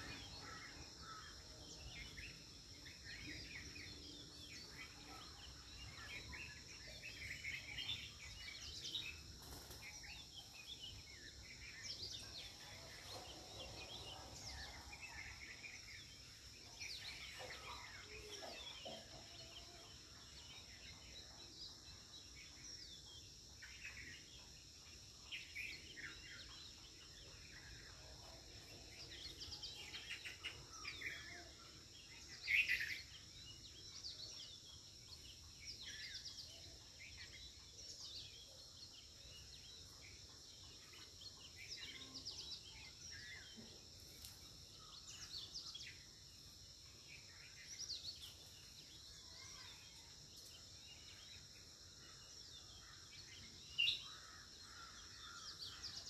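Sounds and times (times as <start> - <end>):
birds chirping and calling: 0.0 - 56.0
faint high insect drone: 0.0 - 56.0.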